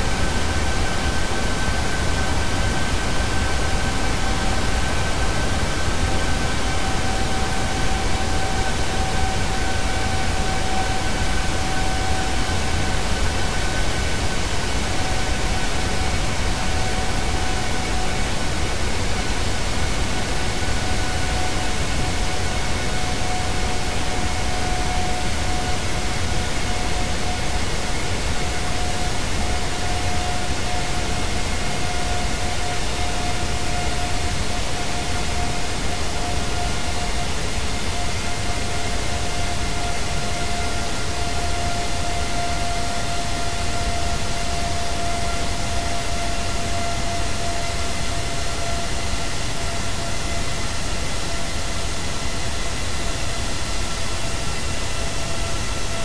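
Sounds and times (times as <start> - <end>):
jet engine spooling down: 0.0 - 56.0.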